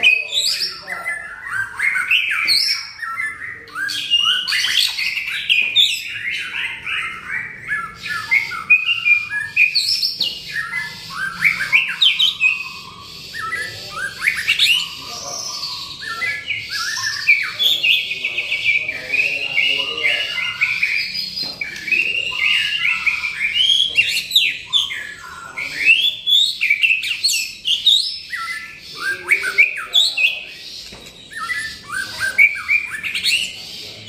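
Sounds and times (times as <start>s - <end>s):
bird singing whistles and trills: 0.0s - 34.0s.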